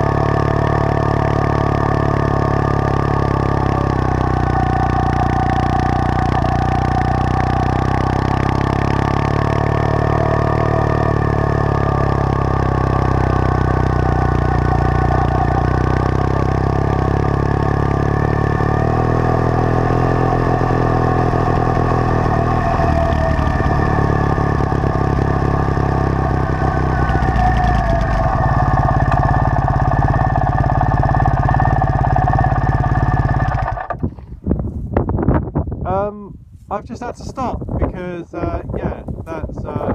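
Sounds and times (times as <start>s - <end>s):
motorcycle engine running: 0.0s - 35.7s.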